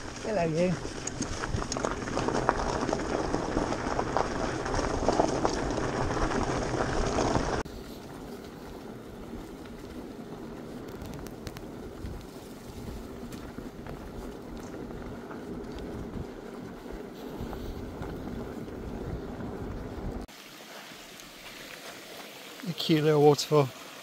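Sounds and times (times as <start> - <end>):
bike tyres rolling over stony track: 0.0 - 24.0.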